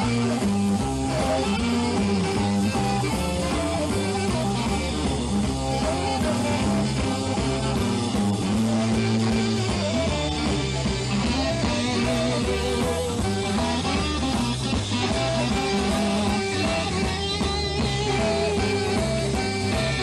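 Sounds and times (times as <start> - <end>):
backing band: 0.0 - 20.0
electric guitar lead: 0.0 - 20.0.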